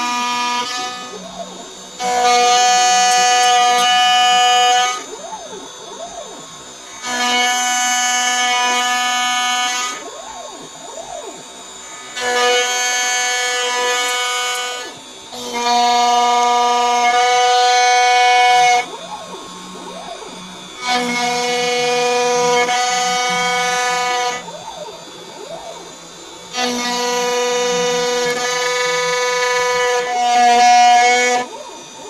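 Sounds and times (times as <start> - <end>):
milling cutter whining on metal: 0.0 - 32.0.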